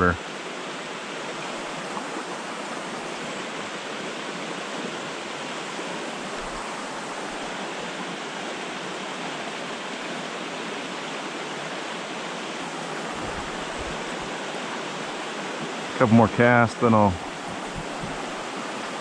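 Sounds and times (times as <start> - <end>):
fast white water rushing: 0.0 - 19.0.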